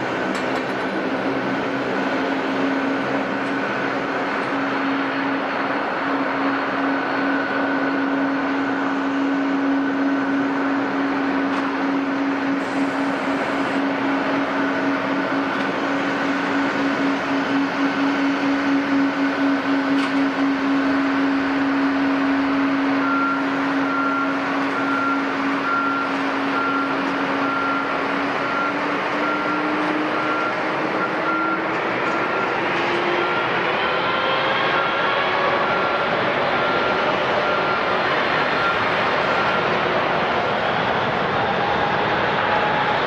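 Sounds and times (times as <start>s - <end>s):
jet engines whining: 0.0s - 43.0s.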